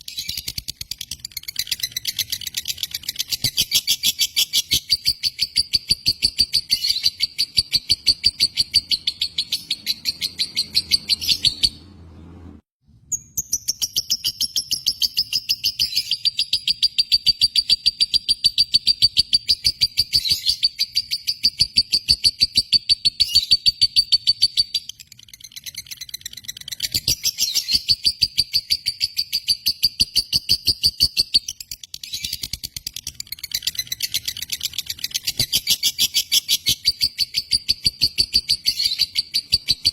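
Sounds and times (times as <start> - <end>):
lovebird chattering chirps: 0.0 - 11.8, 13.2 - 39.9.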